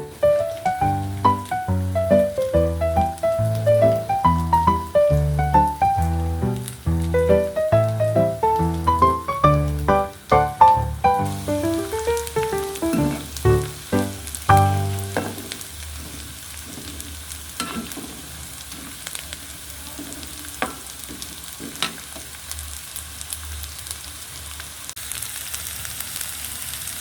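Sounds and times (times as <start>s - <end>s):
food sizzling in oil in a wok: 0.0s - 27.0s.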